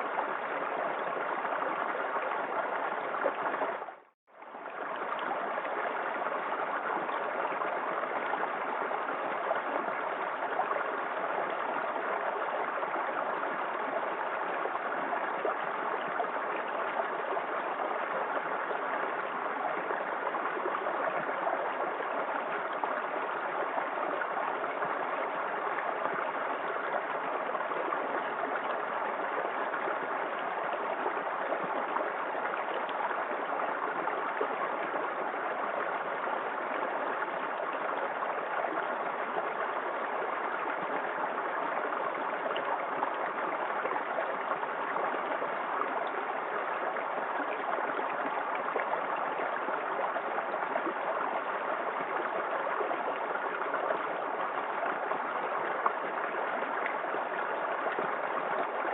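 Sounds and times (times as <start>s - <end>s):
small waterfall splashing: 0.0s - 58.9s.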